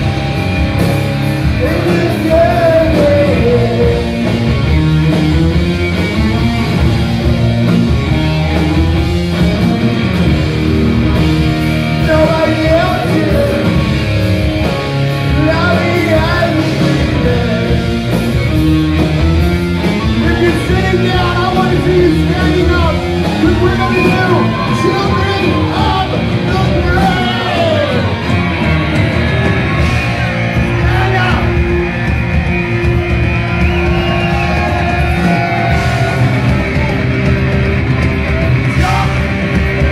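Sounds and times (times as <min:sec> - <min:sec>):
heavy rock song with singing: 0:00.0 - 0:39.9.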